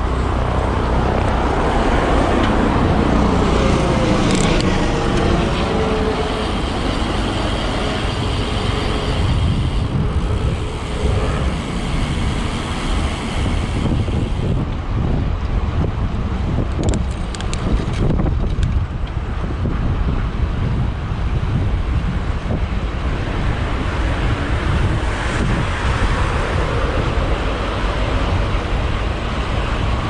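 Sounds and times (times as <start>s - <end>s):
cars passing: 0.0s - 16.5s, 22.4s - 30.0s
wind rumbling on microphone: 0.0s - 30.0s.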